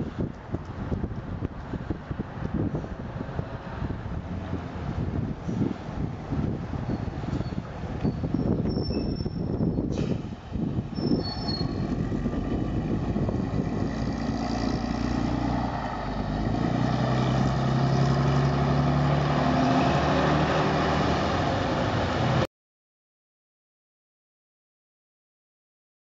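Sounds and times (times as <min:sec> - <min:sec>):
bus engine accelerating: 0:00.0 - 0:22.5
bus engine drone: 0:00.0 - 0:22.5.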